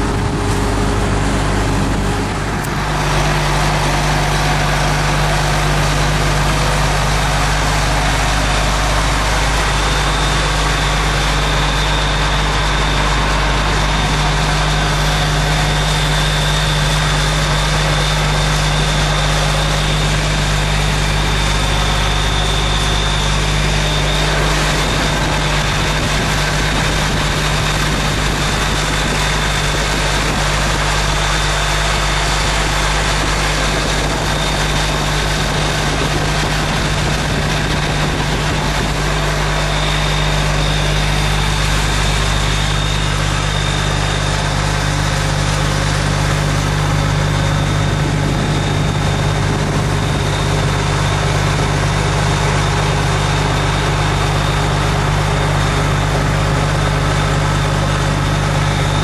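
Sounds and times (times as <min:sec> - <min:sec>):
diesel engine drone: 0:00.0 - 0:59.0
thin high whine: 0:00.0 - 0:59.0.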